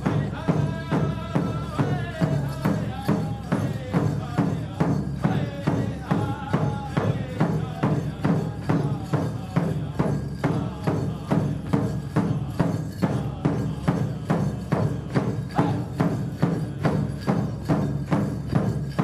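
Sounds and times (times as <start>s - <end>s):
group singing: 0.0s - 18.2s
big drum steady beat: 0.0s - 19.0s.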